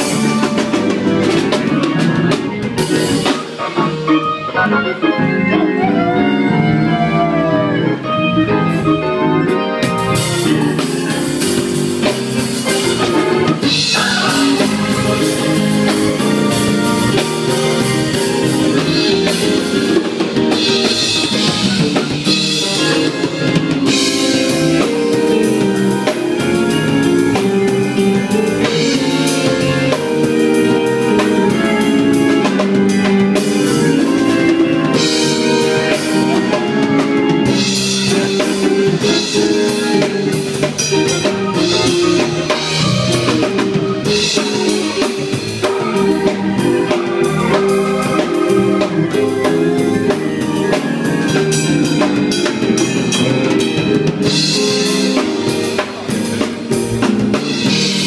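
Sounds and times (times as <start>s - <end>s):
drum kit: 0.0s - 58.0s
organ playing chords: 0.0s - 58.0s.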